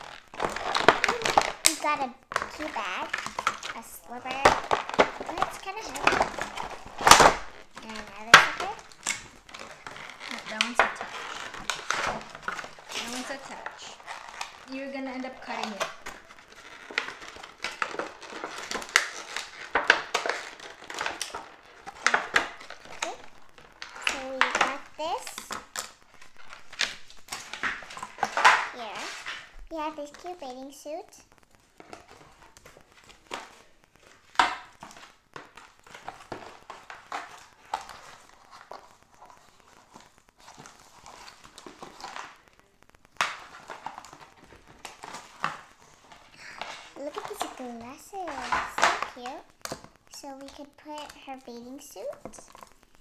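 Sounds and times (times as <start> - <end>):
packaging crinkling and rustling: 0.0 - 53.0.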